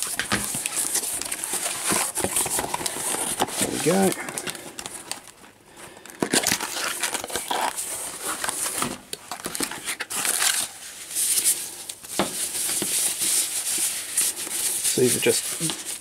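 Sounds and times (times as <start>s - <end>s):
packing wrap crinkling: 0.0s - 16.0s.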